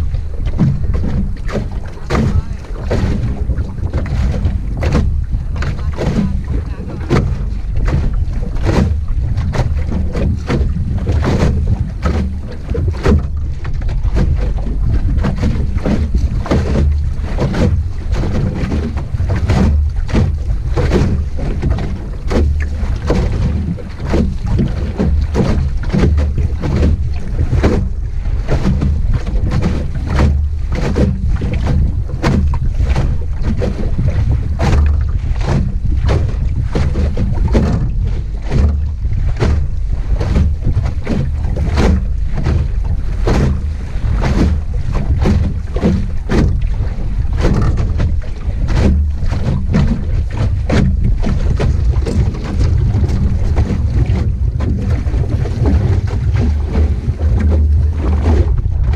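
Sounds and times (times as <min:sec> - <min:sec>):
water slapping against hull: 0:00.0 - 0:58.9
wind buffeting microphone: 0:00.0 - 0:58.9.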